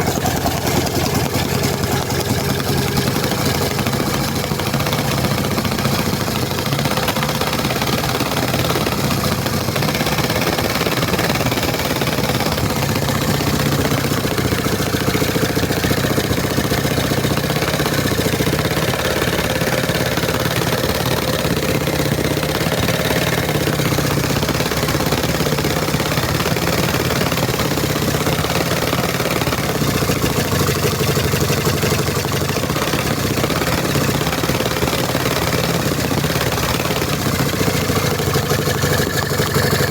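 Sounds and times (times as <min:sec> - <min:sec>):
small engine at full throttle: 0:00.0 - 0:39.9.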